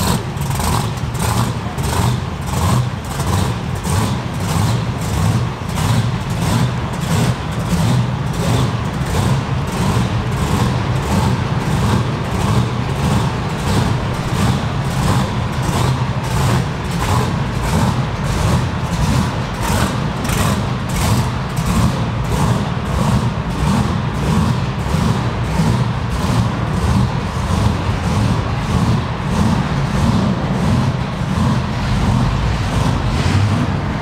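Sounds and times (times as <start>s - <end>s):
car engine lopey idle: 0.0s - 34.0s.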